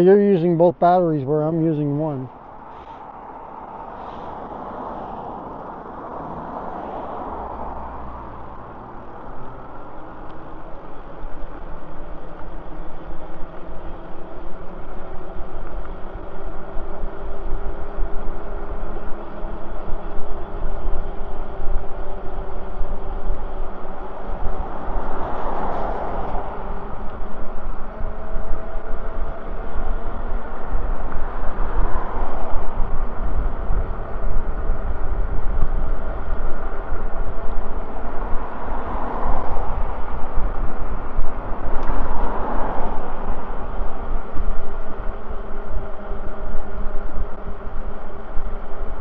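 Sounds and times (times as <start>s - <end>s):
tyre noise on pavement: 2.3s - 49.0s
wind buffeting microphone: 2.4s - 49.0s.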